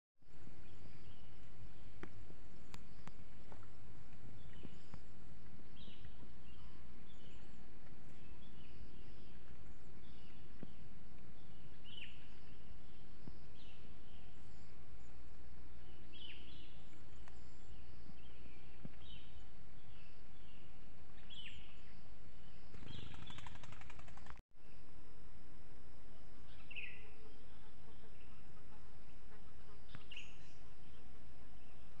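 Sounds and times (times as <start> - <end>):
small birds chirping: 0.2 - 24.4, 26.1 - 32.0
outdoor background noise: 0.2 - 32.0.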